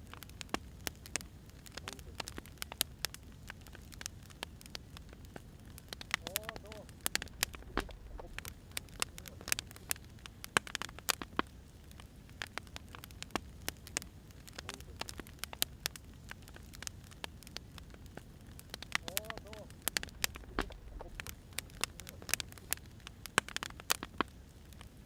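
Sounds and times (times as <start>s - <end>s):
firewood crackling and popping: 0.0s - 25.0s
low rumble of fire: 0.0s - 25.0s.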